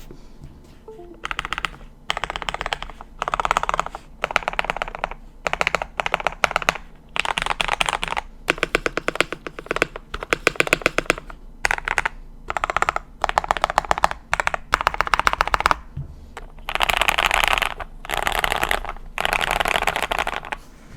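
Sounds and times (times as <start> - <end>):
mechanical keyboard typing: 0.9 - 15.8, 16.4 - 20.6.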